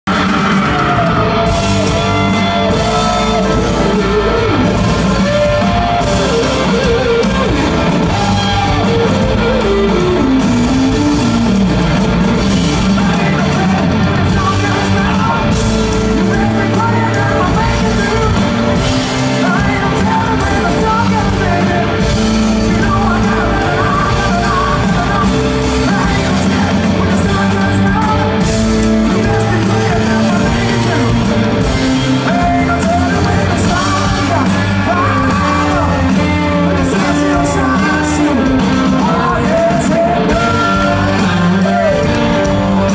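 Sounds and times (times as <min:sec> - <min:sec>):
drums: 0:00.0 - 0:42.9
electric guitar: 0:00.0 - 0:42.9
live rock band: 0:00.0 - 0:42.9
man singing: 0:00.1 - 0:11.4, 0:12.4 - 0:42.9.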